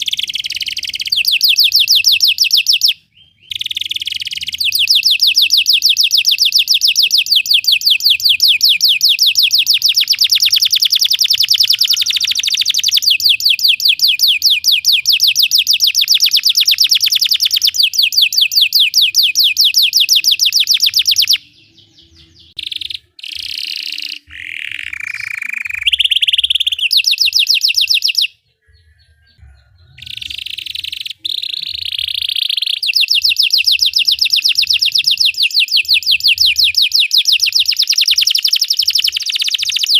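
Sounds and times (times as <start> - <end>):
canary trilling song: 0.0 - 39.9.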